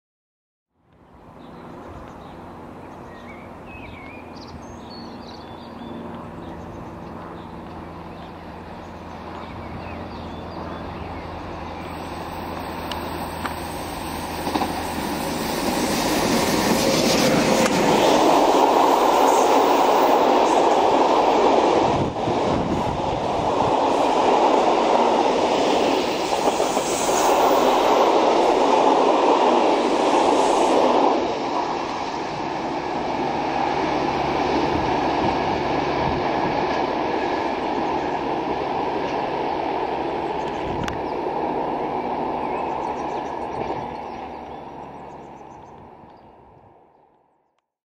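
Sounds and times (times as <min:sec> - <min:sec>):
freight train wheels rumbling: 0:01.5 - 0:46.8.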